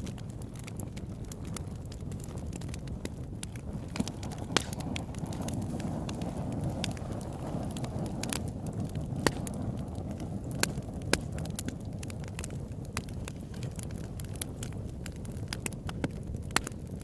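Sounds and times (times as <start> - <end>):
crackles and pops of burning wood: 0.0 - 17.0
low rush of flames: 0.0 - 17.0.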